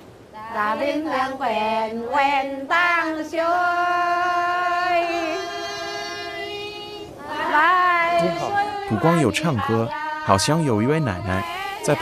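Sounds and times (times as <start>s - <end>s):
people singing a cappella: 0.3s - 12.0s.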